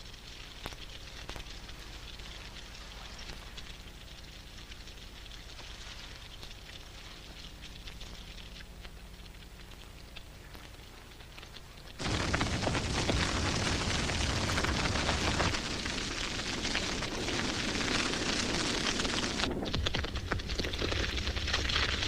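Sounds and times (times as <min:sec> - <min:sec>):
grass fire crackling: 0:00.0 - 0:22.0.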